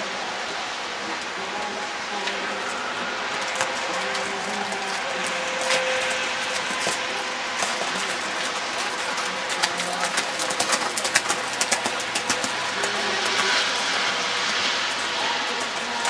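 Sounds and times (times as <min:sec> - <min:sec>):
faint distant voices: 0:00.0 - 0:16.0.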